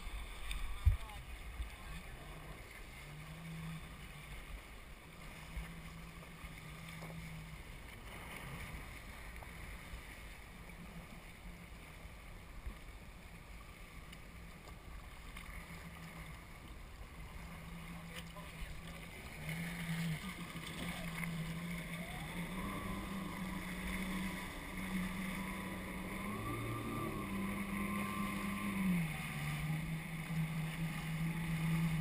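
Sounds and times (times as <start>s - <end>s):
jet ski engine humming: 0.0s - 32.0s
water noise: 0.0s - 32.0s.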